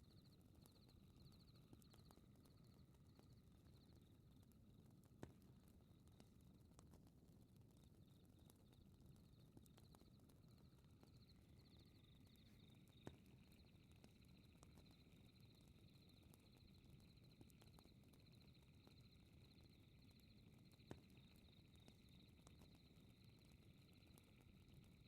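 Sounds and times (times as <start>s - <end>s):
fire crackles and pops: 0.1s - 25.0s.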